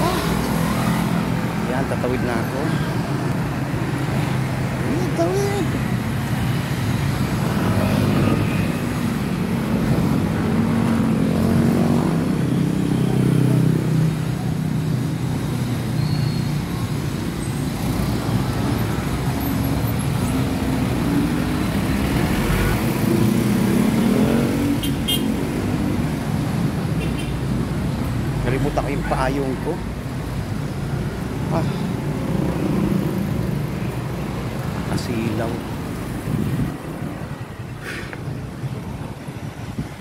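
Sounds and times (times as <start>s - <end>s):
passing traffic engines: 0.0s - 40.0s.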